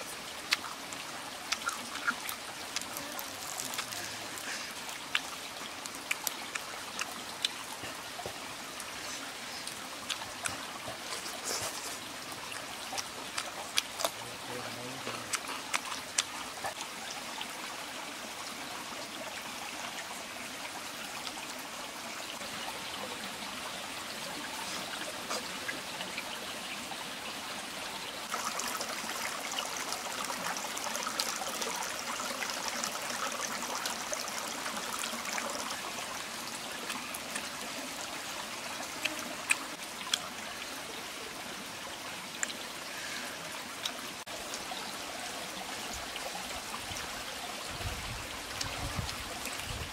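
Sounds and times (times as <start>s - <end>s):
small stream trickling: 0.0s - 49.9s.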